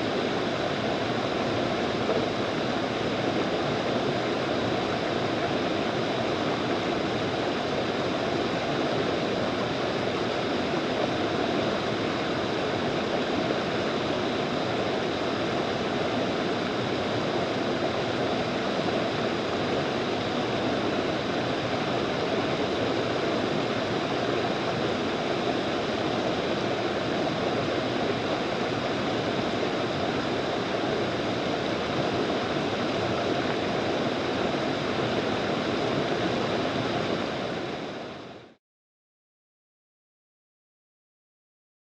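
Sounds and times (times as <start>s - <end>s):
stream rushing over rapids: 0.0s - 38.6s.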